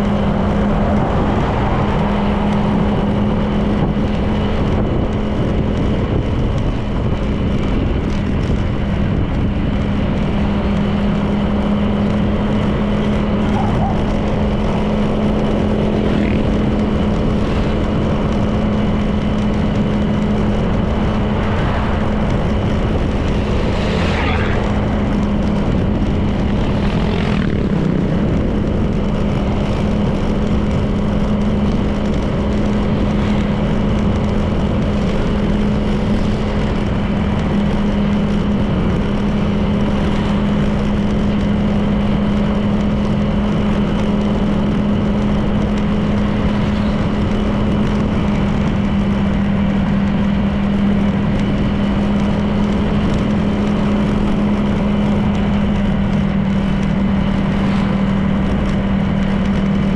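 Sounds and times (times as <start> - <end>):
passing vehicle: 0.0 - 59.9
scooter engine running: 0.0 - 59.9
wind and road noise: 0.0 - 59.9.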